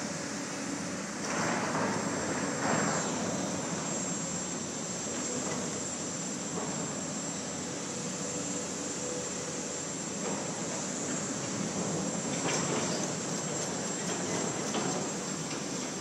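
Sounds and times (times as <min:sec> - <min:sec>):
heavy excavating machinery running: 0:00.0 - 0:16.0.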